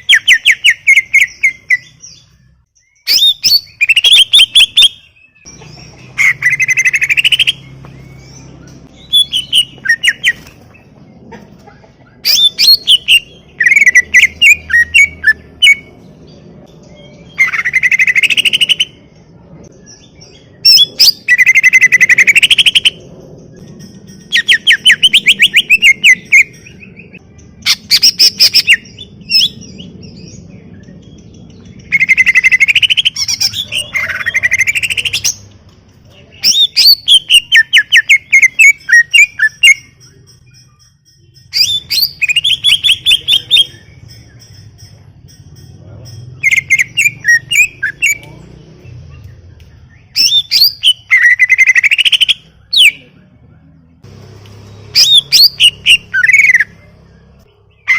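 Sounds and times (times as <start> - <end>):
bird singing trills and whistles: 0.0 - 10.9, 12.0 - 35.6, 36.2 - 53.8, 54.6 - 57.9.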